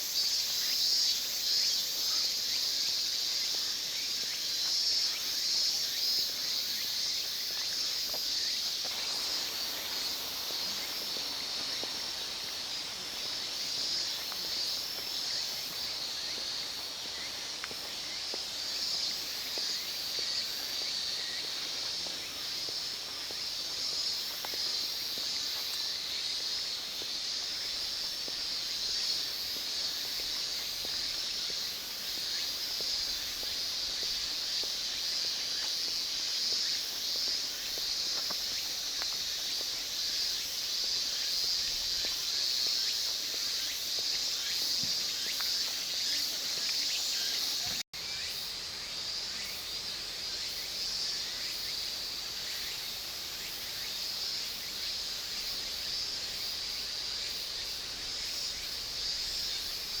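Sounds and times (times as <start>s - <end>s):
insects chirping: 0.0s - 60.0s.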